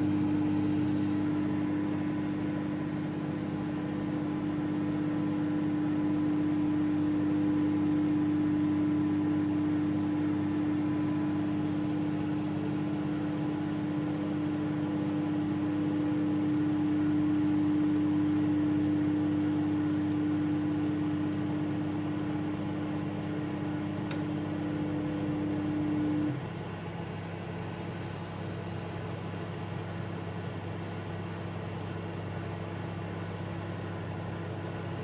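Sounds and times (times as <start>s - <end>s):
microwave oven humming: 0.0s - 35.0s.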